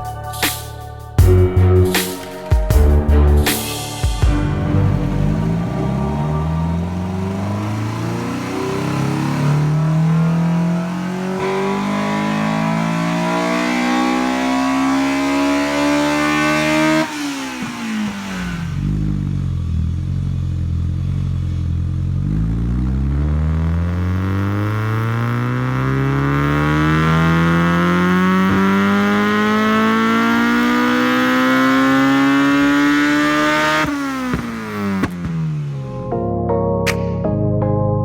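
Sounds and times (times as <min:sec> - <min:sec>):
car engine revving: 0:01.2 - 0:36.1.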